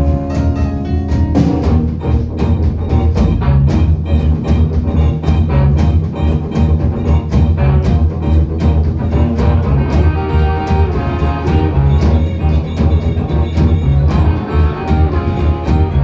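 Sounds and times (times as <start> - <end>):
live rock band playing: 0.0 - 16.0
steady drum beat: 0.0 - 16.0.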